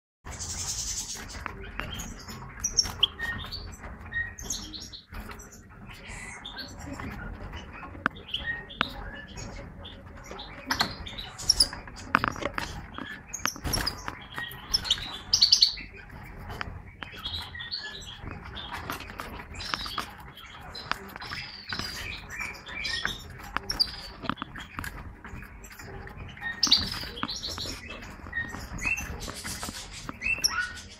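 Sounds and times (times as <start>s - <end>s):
finches chirping: 0.3s - 30.9s.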